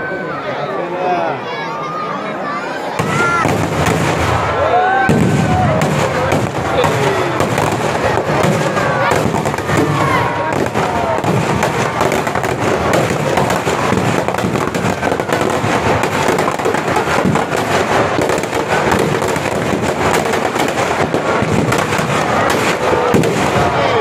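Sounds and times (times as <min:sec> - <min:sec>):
firecrackers crackling: 0:02.8 - 0:24.0.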